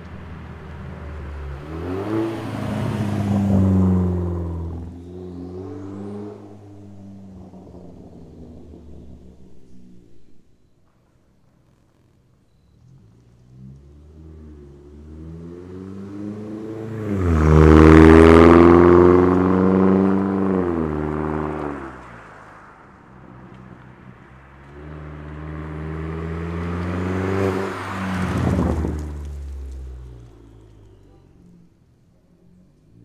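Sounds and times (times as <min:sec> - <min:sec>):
car engine accelerating: 0:00.0 - 0:10.8, 0:11.6 - 0:33.0.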